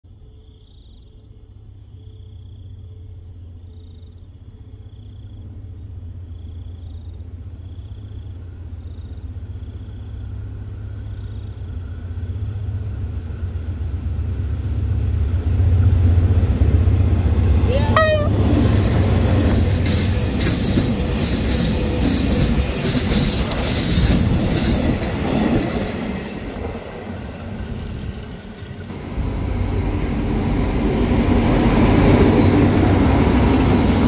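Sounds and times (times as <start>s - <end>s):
insects trilling: 0.1s - 34.0s
locomotive engine and track rumble: 4.7s - 34.0s.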